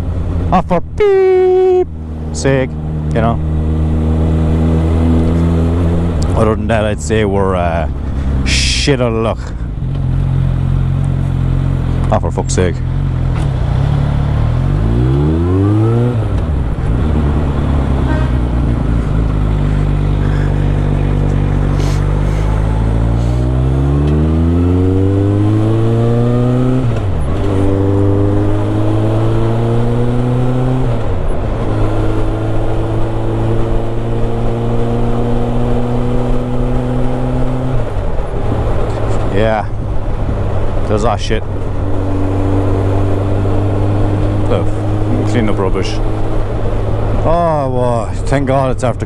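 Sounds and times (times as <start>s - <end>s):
motorcycle engine revving through gears: 1.9s - 6.8s, 9.8s - 49.0s.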